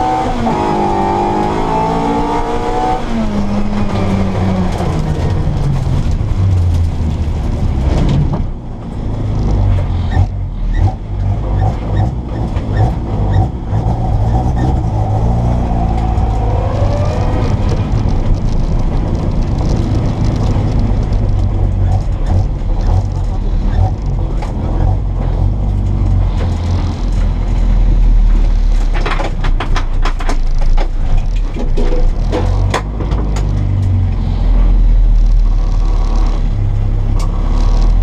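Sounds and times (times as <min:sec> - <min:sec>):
rally car engine revving: 0:00.0 - 0:29.9, 0:30.5 - 0:38.0.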